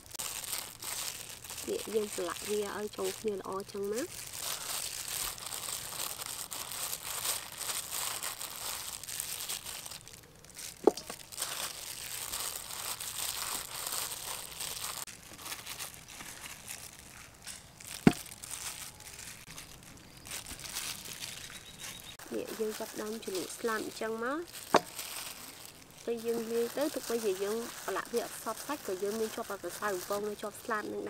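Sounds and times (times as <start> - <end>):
flour rustling: 0.0 - 31.0
plastic glove crinkling: 0.0 - 31.0.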